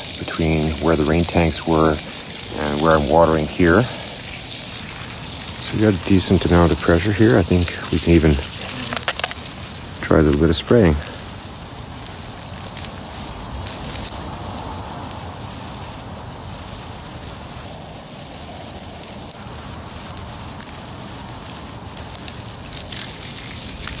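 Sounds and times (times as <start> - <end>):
garden hose spraying water: 0.0 - 24.0
water drops ticking on leaves: 0.0 - 24.0.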